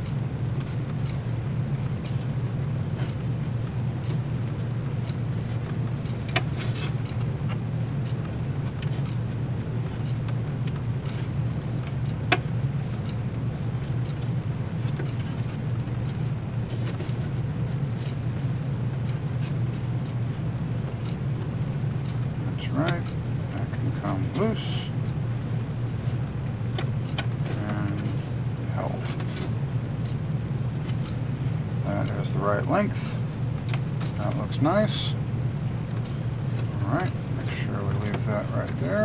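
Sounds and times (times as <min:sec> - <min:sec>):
workshop machine humming: 0:00.0 - 0:39.0.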